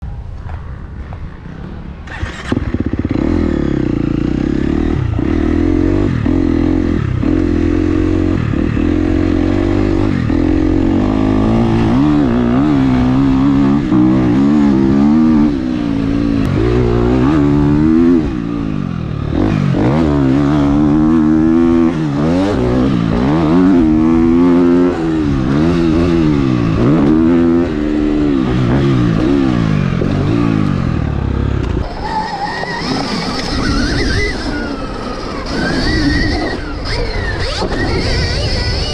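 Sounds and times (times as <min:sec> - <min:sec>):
dirt bike engine revving: 0:02.1 - 0:38.9.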